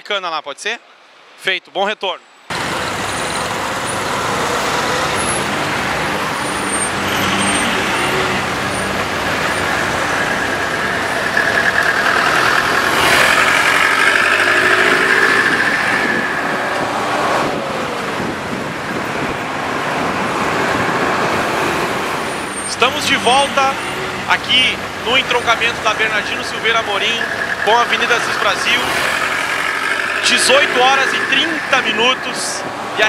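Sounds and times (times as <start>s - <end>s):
heavy road traffic: 2.2s - 33.0s
bus passing with high whine: 2.4s - 33.0s.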